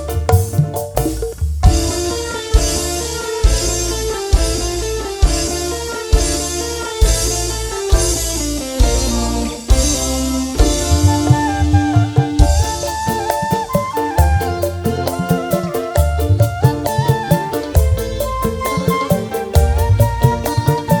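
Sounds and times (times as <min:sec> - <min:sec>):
bass hits: 0:00.0 - 0:17.1, 0:17.7 - 0:21.0
drum fill: 0:00.0 - 0:21.0
guitar: 0:00.0 - 0:21.0
live band playing: 0:00.0 - 0:21.0.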